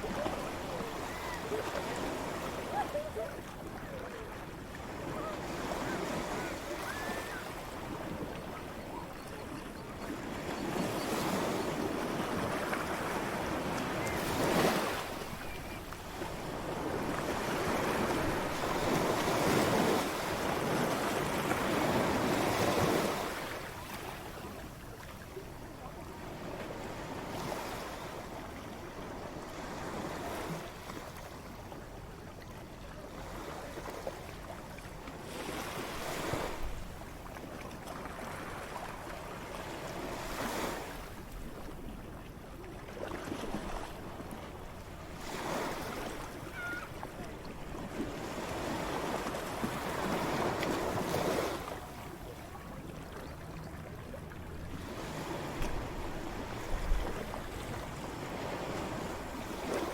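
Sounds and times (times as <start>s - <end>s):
ocean waves crashing on shore: 0.0s - 31.4s, 43.1s - 59.9s.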